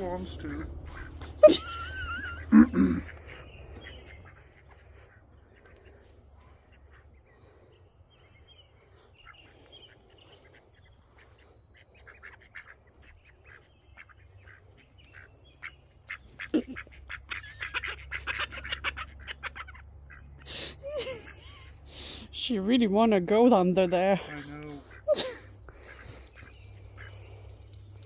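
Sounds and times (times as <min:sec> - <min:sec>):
ducks quacking softly: 0:00.0 - 0:22.3, 0:23.5 - 0:28.0.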